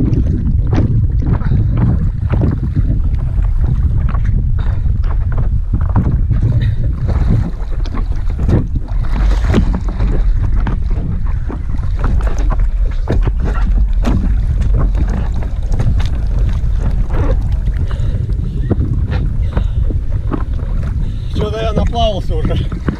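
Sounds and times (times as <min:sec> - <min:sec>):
water splashing against paddleboard: 0:00.0 - 0:22.9
wind buffeting microphone: 0:00.0 - 0:22.9.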